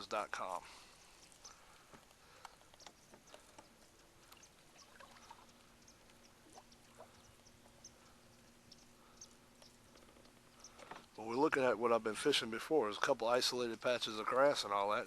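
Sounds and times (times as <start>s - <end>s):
soft ticks and chirps: 0.0s - 11.7s, 12.3s - 15.0s
faint steady hum: 0.0s - 15.0s.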